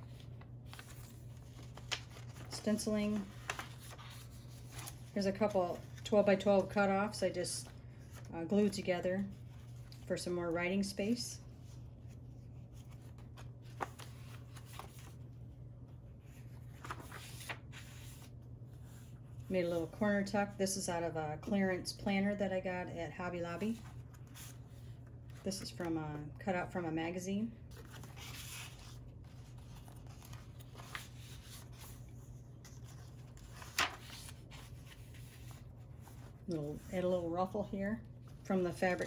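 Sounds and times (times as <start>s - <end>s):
paper pages rustling: 0.0s - 15.4s, 16.1s - 19.2s, 23.6s - 26.0s, 27.6s - 39.0s.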